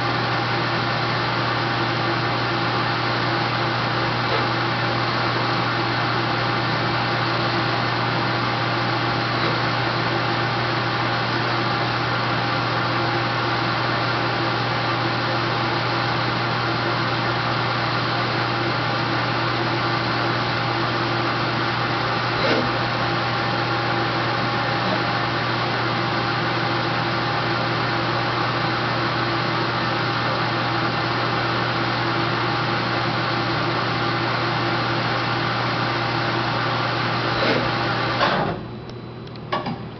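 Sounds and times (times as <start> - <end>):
lathe hum and whir: 0.0 - 39.9.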